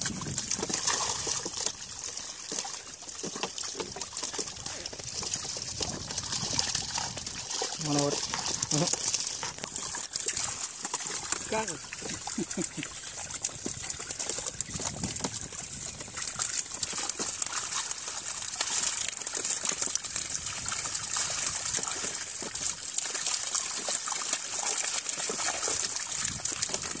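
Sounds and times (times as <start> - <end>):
fish thrashing and splashing: 0.0 - 27.0.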